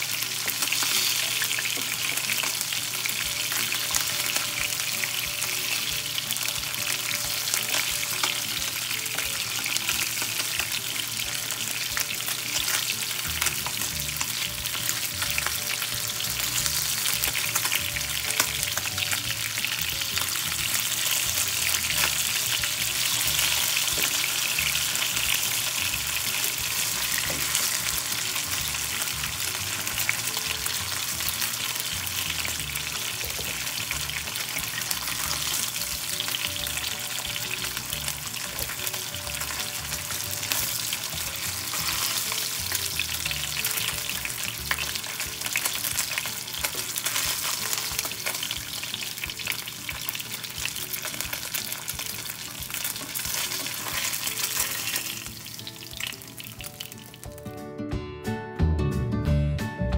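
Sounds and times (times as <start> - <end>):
fish sizzling in hot oil: 0.0 - 57.4.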